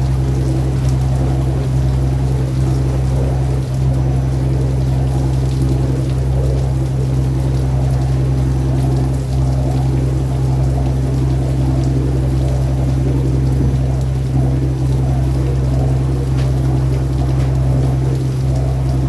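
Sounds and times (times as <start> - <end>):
boat engine droning: 0.0 - 19.0
water rushing: 0.0 - 19.0.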